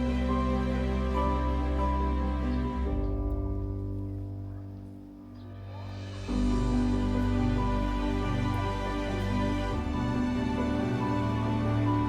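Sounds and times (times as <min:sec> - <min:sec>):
soft sustained chords: 0:00.0 - 0:12.0.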